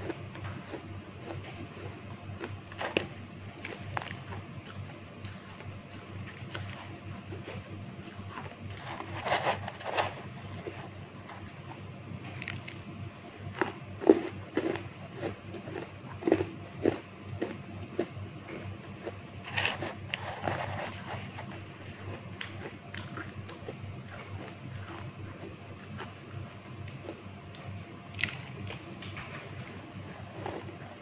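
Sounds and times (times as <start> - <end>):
person chewing crunchy ice: 0.0 - 29.0, 29.6 - 31.0.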